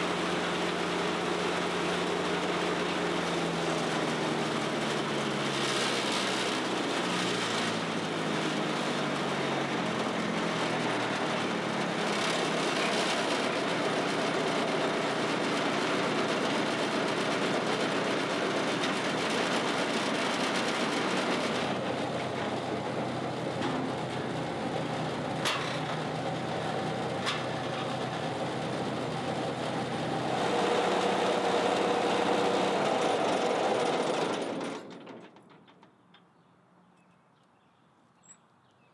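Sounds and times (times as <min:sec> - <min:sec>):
brush chipper diesel engine running: 0:00.0 - 0:35.6.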